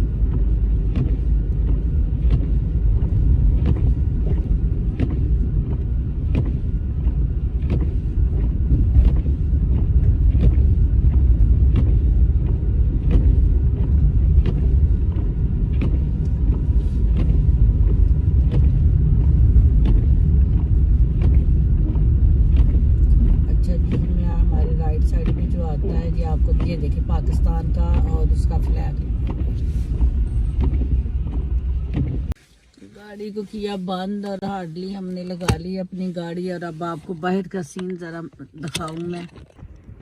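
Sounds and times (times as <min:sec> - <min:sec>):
car engine and tyres rumbling: 0:00.0 - 0:40.0.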